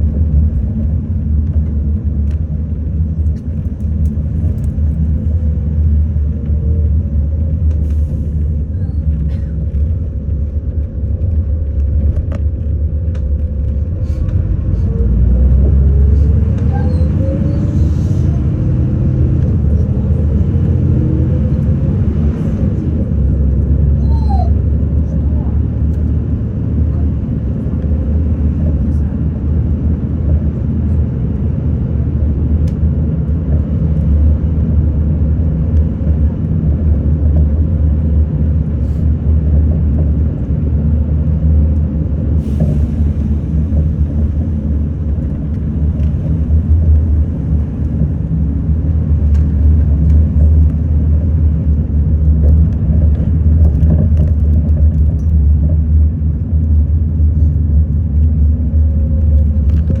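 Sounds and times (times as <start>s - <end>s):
bus engine and road noise: 0.0s - 60.0s.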